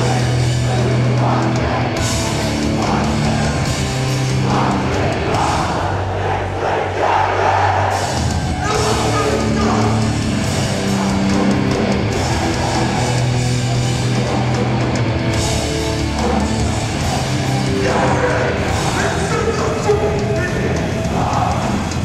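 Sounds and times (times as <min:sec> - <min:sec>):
distorted electric guitars: 0:00.0 - 0:06.0, 0:07.9 - 0:22.0
drums: 0:00.0 - 0:22.0.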